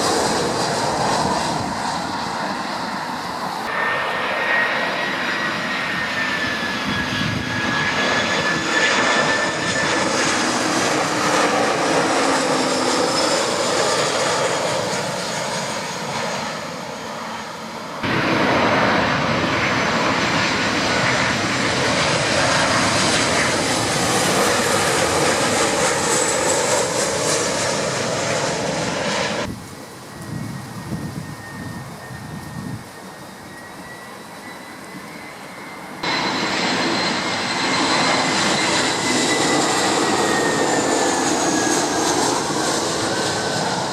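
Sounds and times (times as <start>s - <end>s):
jet airliner engines roaring: 0.0s - 43.9s.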